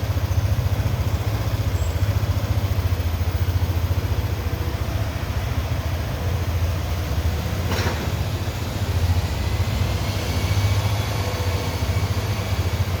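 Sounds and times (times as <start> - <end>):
scooter engine idling: 0.0 - 13.0.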